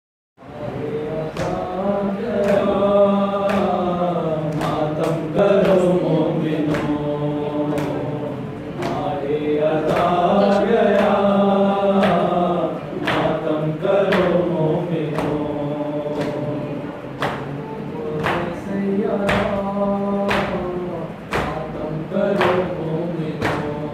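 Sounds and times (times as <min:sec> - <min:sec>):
men chanting a lament: 0:00.4 - 0:23.9.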